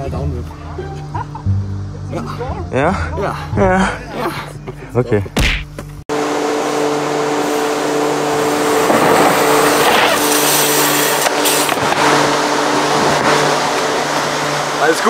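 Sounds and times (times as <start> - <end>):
blower motor hum: 0.0 - 15.0.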